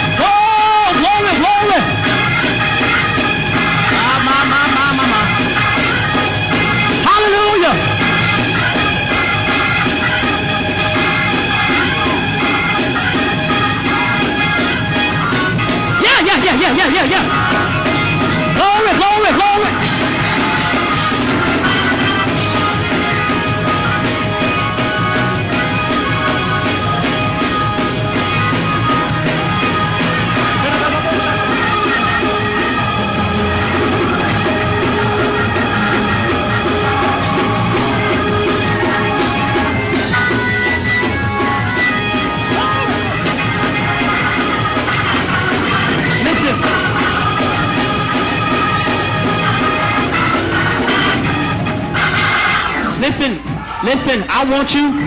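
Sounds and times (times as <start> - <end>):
people yelling and singing: 0.0 - 54.9
gospel church band music: 0.0 - 55.0.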